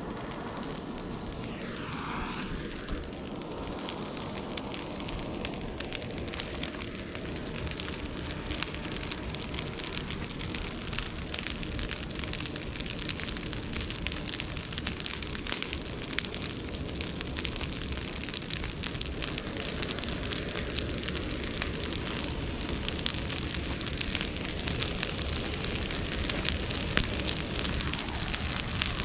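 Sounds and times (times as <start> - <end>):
bonfire flames rushing: 0.0 - 29.0
fire crackles and pops: 0.0 - 29.0.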